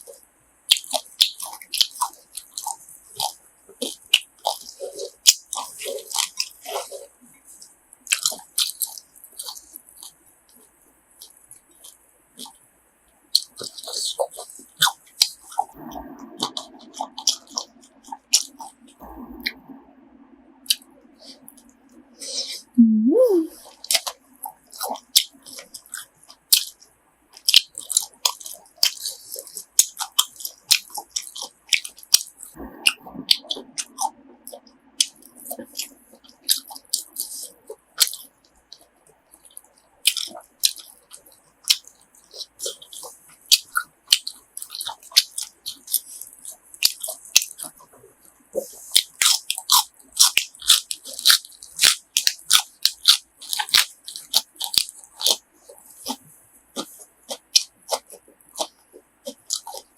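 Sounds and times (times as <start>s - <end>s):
wet mouth clicks: 0.0s - 12.6s, 13.4s - 19.9s, 20.6s - 59.9s
crunchy food being chewed: 0.0s - 20.0s, 20.6s - 22.5s, 23.5s - 59.9s.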